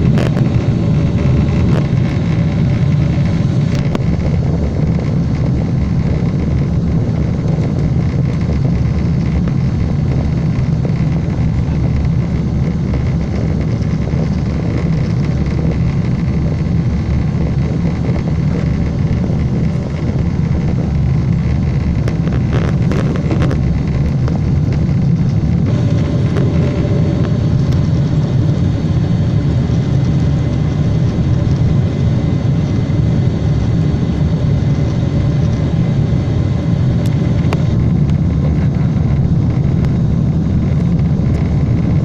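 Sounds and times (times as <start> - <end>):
jet engine cabin roar: 0.0 - 42.0.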